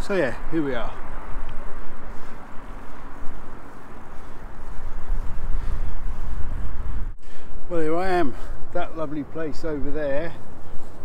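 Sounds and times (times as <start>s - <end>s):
road and traffic noise: 0.0s - 11.0s
wind buffeting microphone: 0.0s - 11.0s.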